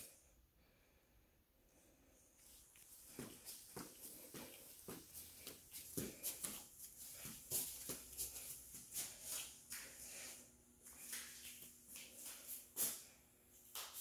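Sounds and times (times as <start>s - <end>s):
footsteps walking: 2.4s - 14.0s.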